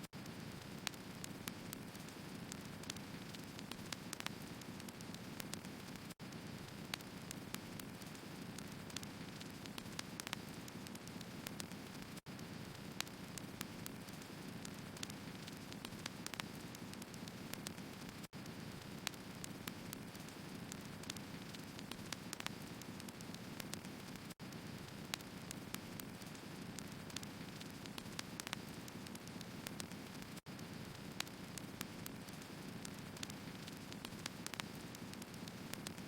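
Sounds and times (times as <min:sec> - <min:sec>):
firewood crackling and popping: 0:00.1 - 0:36.0.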